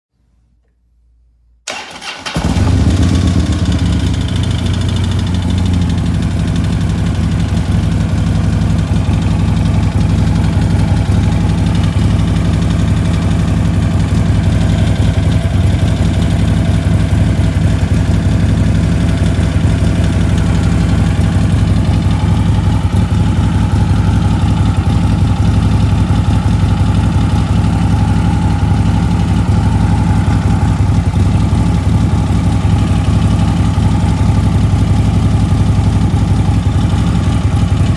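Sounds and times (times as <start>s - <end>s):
motorcycle engine idling: 1.7s - 37.9s
rapid engine ticking: 1.7s - 37.9s.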